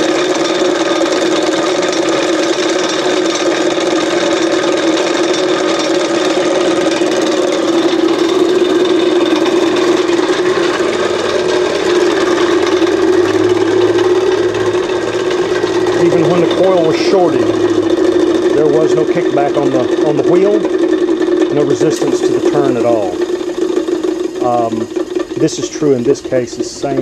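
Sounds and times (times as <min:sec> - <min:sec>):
electric motor humming: 0:00.0 - 0:27.0
lower hum: 0:01.6 - 0:27.0.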